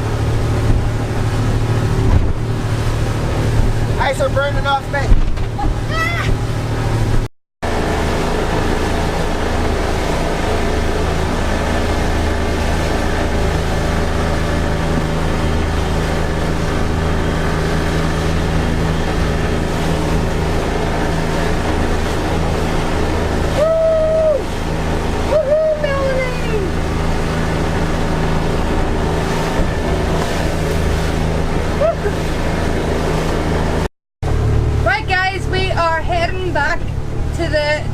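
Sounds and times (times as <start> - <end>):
motorboat engine running: 0.0 - 37.9.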